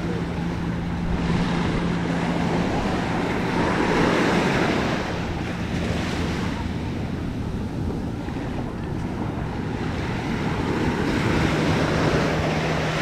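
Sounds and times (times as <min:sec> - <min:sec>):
small waves washing on sand: 0:00.0 - 0:13.0
steady low hum: 0:00.0 - 0:13.0
wind buffeting microphone: 0:00.0 - 0:13.0.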